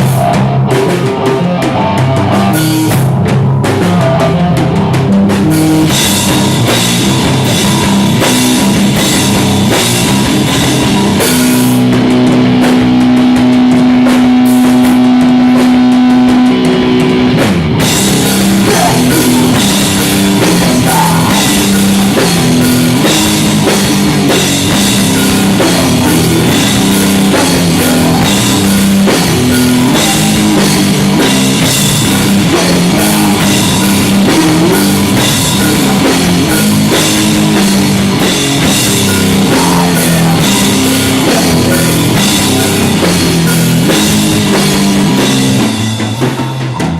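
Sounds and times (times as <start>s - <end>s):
drum kit: 0.0s - 46.9s
live rock band playing: 0.0s - 46.9s.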